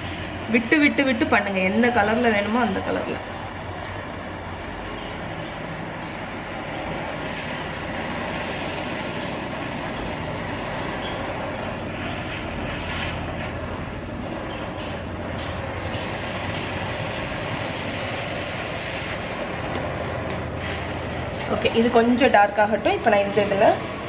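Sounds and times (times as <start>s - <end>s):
blowtorch hissing: 0.0s - 24.0s.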